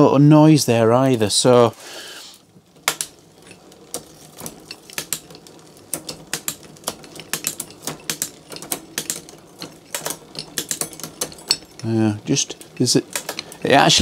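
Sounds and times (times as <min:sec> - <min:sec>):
bicycle chain clicking over cogs: 0:00.0 - 0:01.8, 0:02.4 - 0:14.0.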